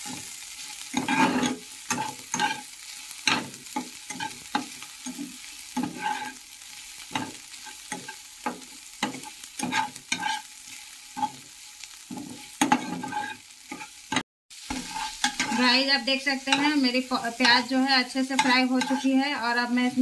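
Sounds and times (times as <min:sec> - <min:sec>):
food sizzling in oil: 0:00.0 - 0:20.0
spatula scraping a pan: 0:00.0 - 0:20.0.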